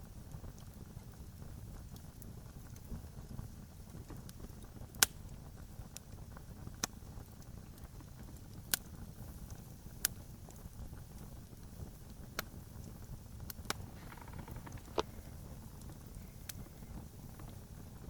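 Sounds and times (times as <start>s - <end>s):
low rumble of burning fire: 0.0s - 18.0s
campfire wood pops: 0.3s - 18.0s.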